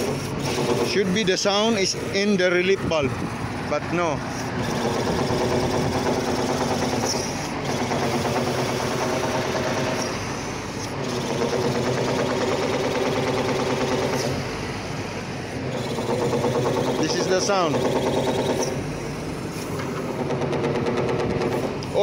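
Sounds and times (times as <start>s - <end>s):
metallic hydraulic drone: 0.0s - 22.0s.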